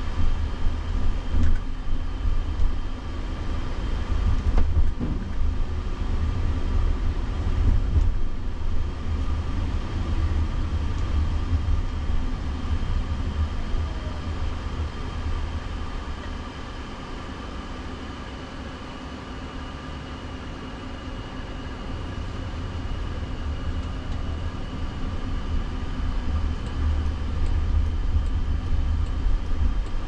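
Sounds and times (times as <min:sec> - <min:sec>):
road and tyre rumble in car: 0:00.0 - 0:30.0.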